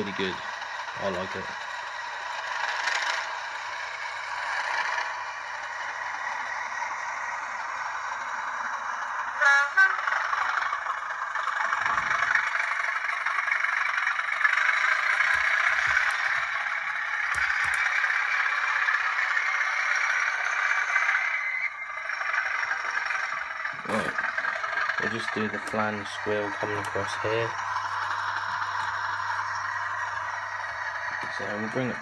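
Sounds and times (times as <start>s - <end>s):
diesel engine sound from small speaker: 0.0s - 32.0s
model train wheels rattling: 0.0s - 32.0s.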